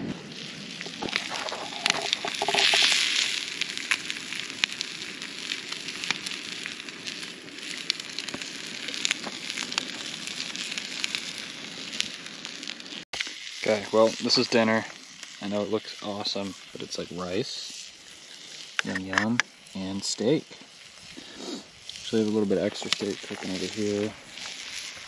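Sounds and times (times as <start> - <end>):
campfire crackling: 0.0 - 25.0
fire popping: 0.0 - 25.0
steak sizzling: 0.0 - 25.0.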